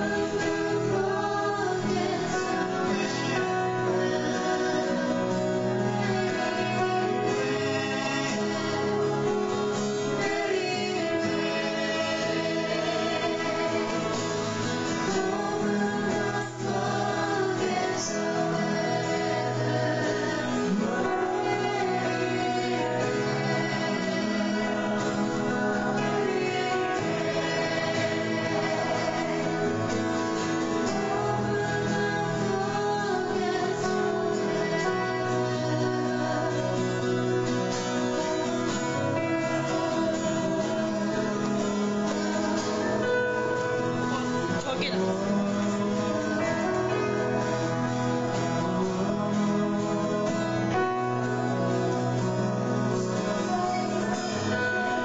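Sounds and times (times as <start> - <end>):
guitar: 0.0 - 55.0
keyboard: 0.0 - 55.0
people singing a hymn: 0.0 - 55.0.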